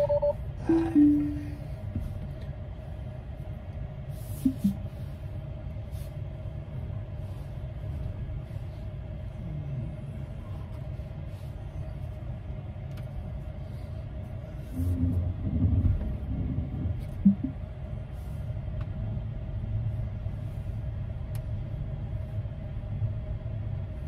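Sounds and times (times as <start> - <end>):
faint steady hum: 0.0 - 24.0
low rumble inside vehicle cabin: 0.0 - 24.0.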